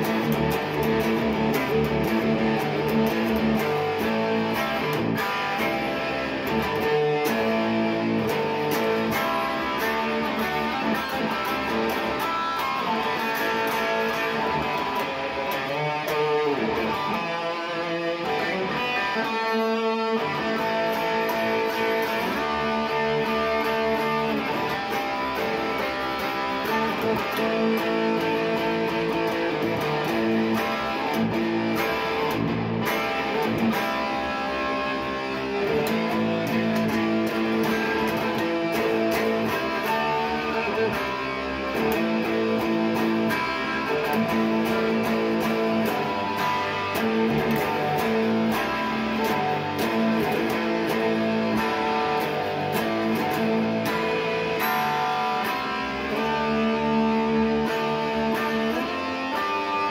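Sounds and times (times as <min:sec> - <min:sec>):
electric guitar lead playing: 0:00.0 - 0:59.9.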